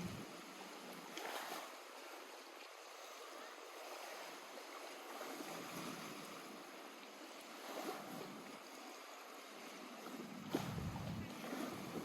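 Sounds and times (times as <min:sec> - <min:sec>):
lake water lapping at shore: 0:00.0 - 0:12.0.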